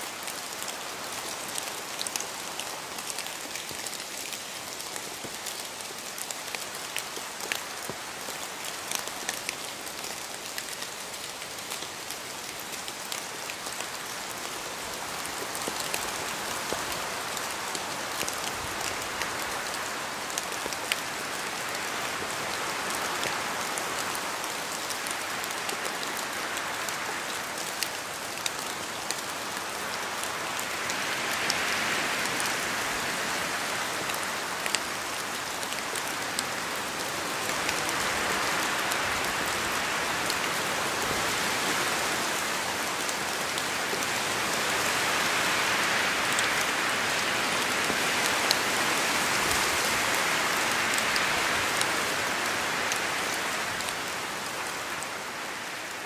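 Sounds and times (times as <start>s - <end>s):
rain drops ticking on surface: 0.0s - 56.0s.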